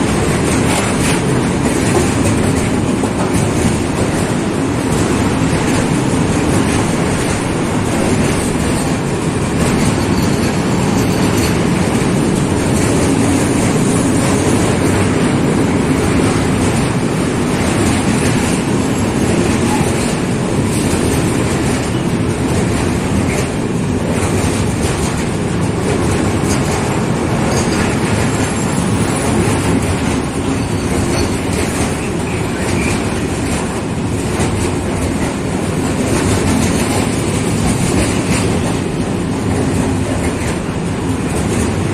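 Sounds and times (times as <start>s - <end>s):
freight train rolling past: 0.0s - 41.9s
wagon wheels on track: 0.0s - 41.9s.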